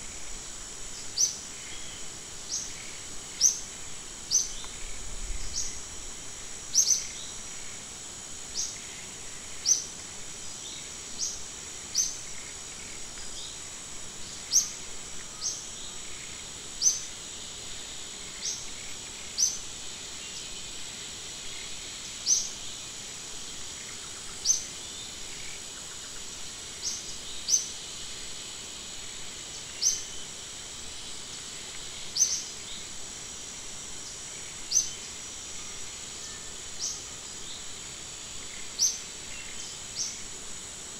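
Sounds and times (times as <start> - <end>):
faint background hiss: 0.0 - 40.9
insects droning: 0.0 - 40.9.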